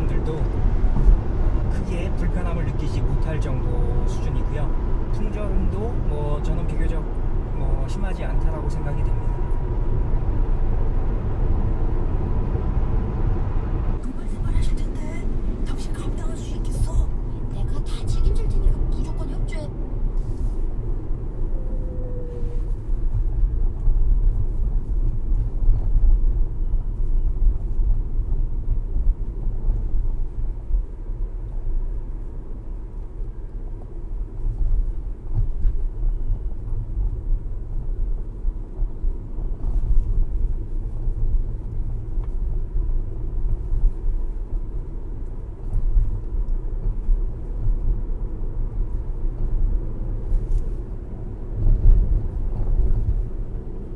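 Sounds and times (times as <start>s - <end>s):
road and tyre rumble: 0.0s - 53.9s.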